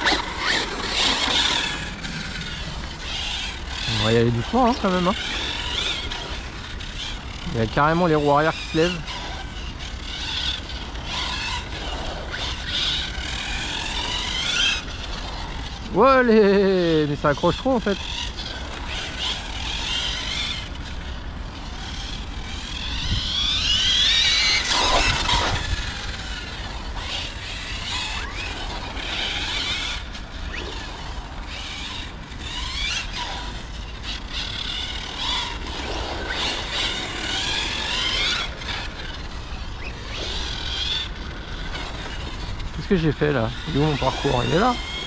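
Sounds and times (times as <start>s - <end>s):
electric motor whining: 0.0s - 45.0s.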